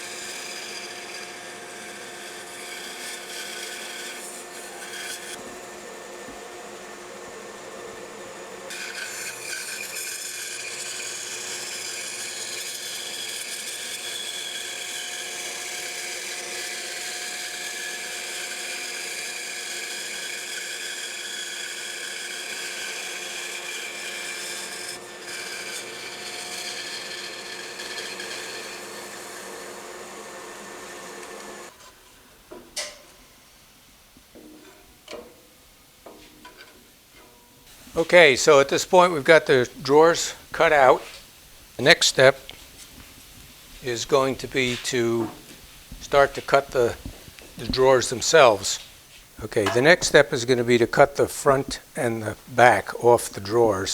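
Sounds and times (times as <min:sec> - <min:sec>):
bandsaw cutting wood: 0:00.0 - 0:31.9, 0:37.7 - 0:41.2, 0:41.8 - 0:42.6, 0:43.8 - 0:53.9.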